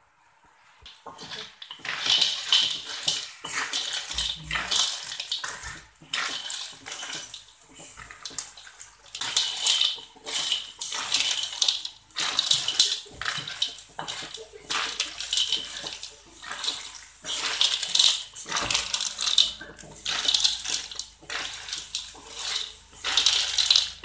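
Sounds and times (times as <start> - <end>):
sauce sizzling: 0.9 - 24.0
snail shells scraping in a wok: 1.1 - 24.0.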